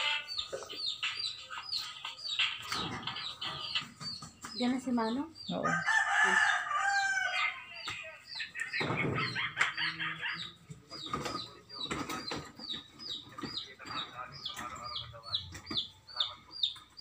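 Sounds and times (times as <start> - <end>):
chick peeping: 0.0 - 17.0
chickens clucking: 0.0 - 17.0.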